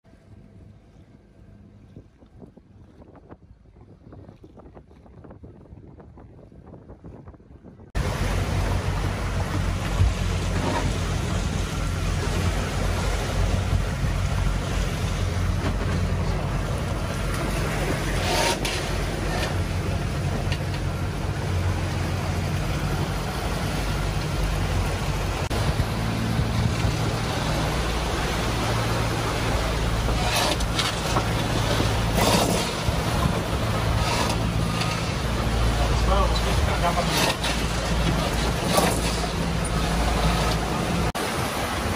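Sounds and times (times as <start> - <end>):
boat engine drone: 0.0 - 41.9
water rushing past hulls: 0.0 - 41.9.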